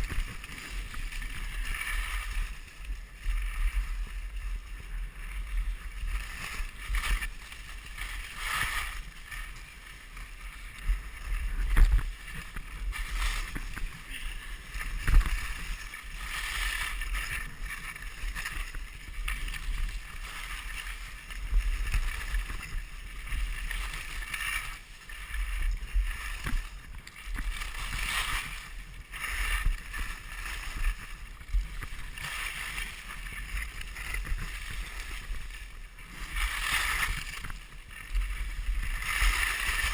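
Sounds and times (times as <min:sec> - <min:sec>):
skis scraping over snow: 0:00.0 - 0:39.9
wind rumble on microphone: 0:00.0 - 0:39.9.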